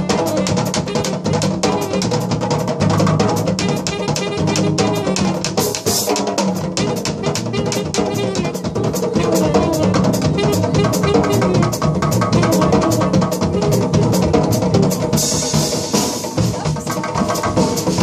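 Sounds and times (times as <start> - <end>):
drums beating busy rhythm: 0.0 - 18.0
jazz-funk band playing: 0.0 - 18.0.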